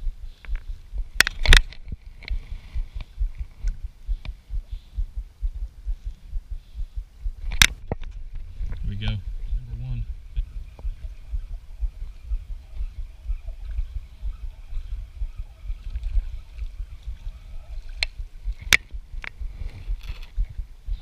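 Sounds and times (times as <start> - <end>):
handling and wind noise rumble: 0.0 - 21.0.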